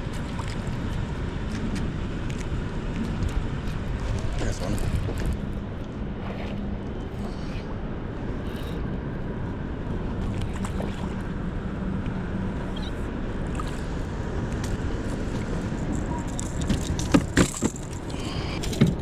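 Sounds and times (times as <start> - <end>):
water noise: 0.0 - 19.0
wind: 0.0 - 19.0.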